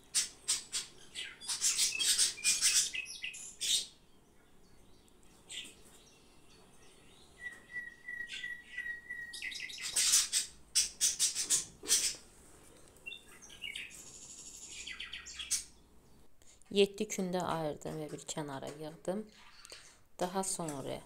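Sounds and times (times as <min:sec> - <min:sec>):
small bird chirping: 0:00.0 - 0:16.3, 0:19.3 - 0:20.0.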